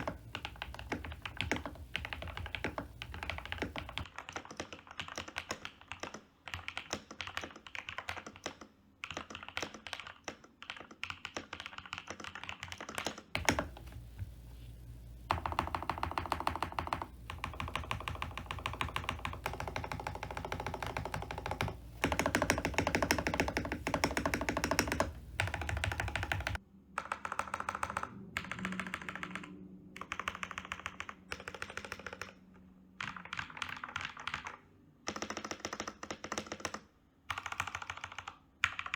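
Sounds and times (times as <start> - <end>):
typing on mechanical keyboard: 0.0 - 14.4, 15.2 - 38.9.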